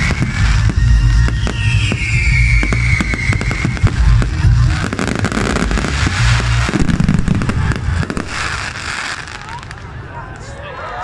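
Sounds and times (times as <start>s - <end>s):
whistling firework: 0.0s - 10.1s
firework crackling: 0.0s - 10.5s.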